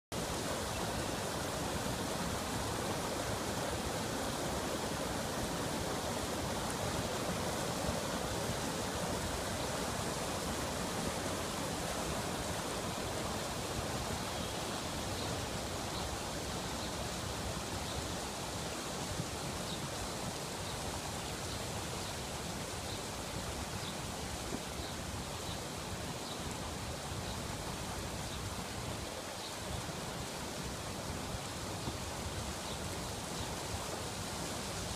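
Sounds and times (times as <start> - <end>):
floodwater rushing over rocks: 0.1 - 34.9.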